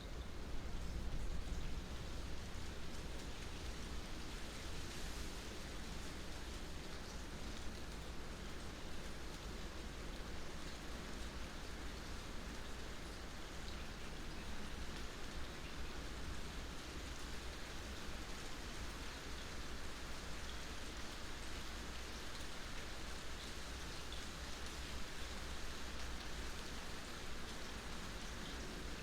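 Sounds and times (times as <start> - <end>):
steady rain: 0.0 - 29.0
small water drips: 0.1 - 29.0.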